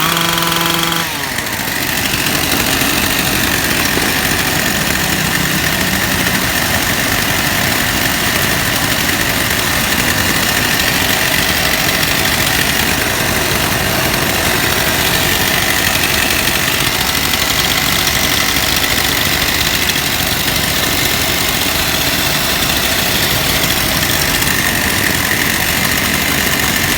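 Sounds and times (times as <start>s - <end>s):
two-stroke power cutter engine: 0.0s - 26.9s.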